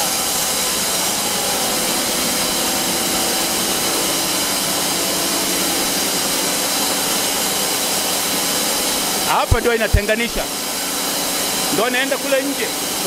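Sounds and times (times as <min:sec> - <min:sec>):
machinery hiss and hum: 0:00.0 - 0:13.0.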